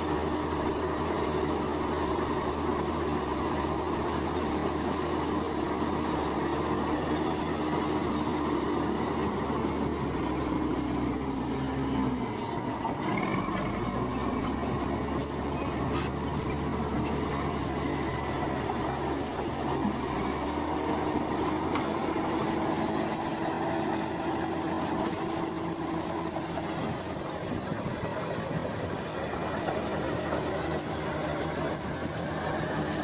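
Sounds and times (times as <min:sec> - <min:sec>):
bulldozer diesel engine running: 0:00.0 - 0:33.0
steel tracks squealing and clattering: 0:00.0 - 0:33.0.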